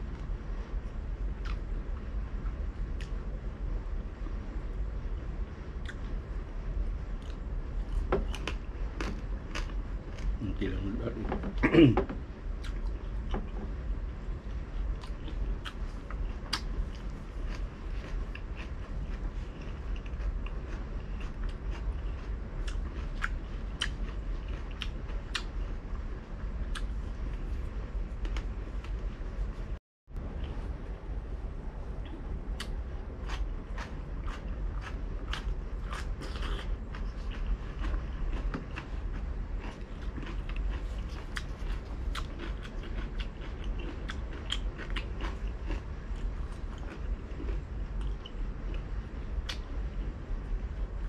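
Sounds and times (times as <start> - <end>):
steady low hum: 0.0 - 51.0
crunchy chewing and mouth clicks: 1.3 - 3.4, 5.7 - 6.3, 7.1 - 13.8, 14.4 - 29.7, 31.9 - 50.2.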